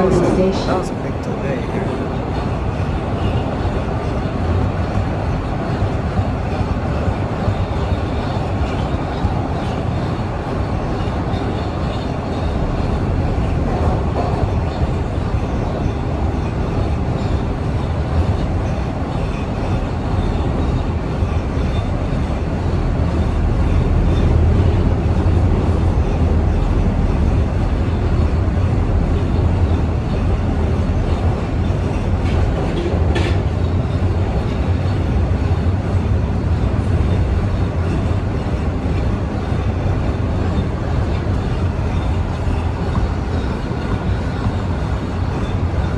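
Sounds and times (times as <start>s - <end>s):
subway train wheels rumbling: 0.0s - 45.9s.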